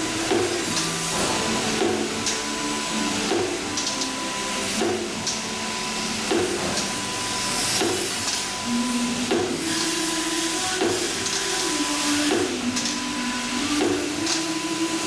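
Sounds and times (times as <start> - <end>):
bursts of hiss: 0.0 - 15.0
steady high tone: 0.0 - 15.0.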